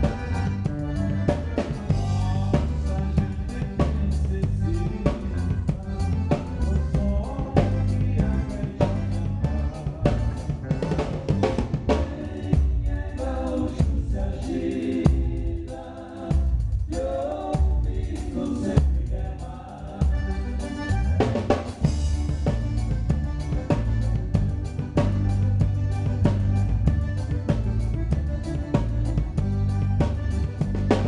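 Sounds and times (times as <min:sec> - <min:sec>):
band playing a song: 0:00.0 - 0:31.0
drum kit beat: 0:00.0 - 0:31.0.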